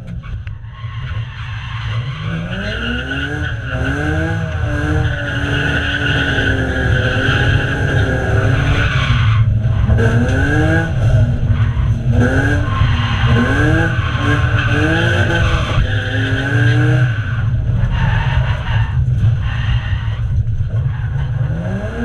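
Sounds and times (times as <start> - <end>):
car engine revving: 1.7 - 22.0.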